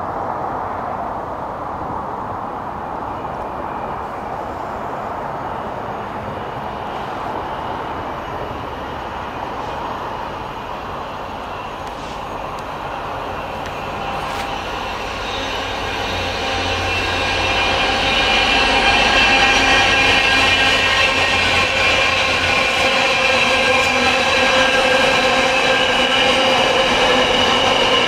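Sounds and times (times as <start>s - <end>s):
train rolling past: 0.0s - 28.0s.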